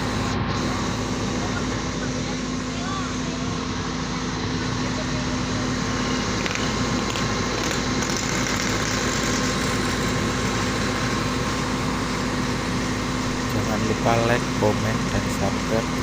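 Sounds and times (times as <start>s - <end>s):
dense background noise: 0.0s - 16.0s
steady engine hum: 0.0s - 16.0s.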